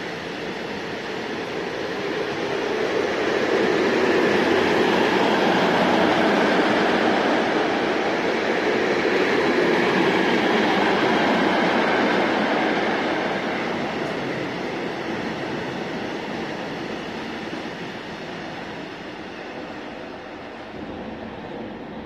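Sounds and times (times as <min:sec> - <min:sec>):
freight train rolling past: 0:00.0 - 0:22.0.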